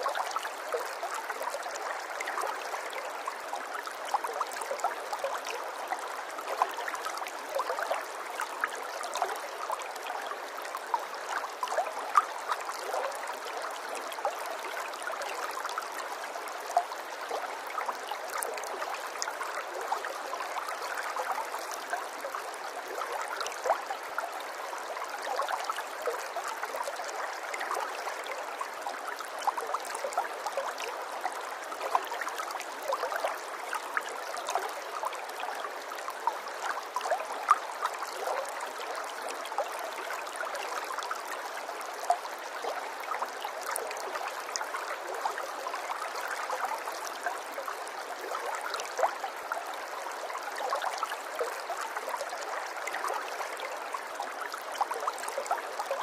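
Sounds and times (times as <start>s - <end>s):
running water babbling: 0.0s - 56.0s.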